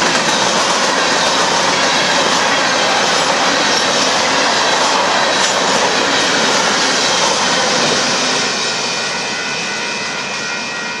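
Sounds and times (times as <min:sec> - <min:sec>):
faint steady high tones: 0:00.0 - 0:11.0
freight train rolling on rails: 0:00.0 - 0:11.0.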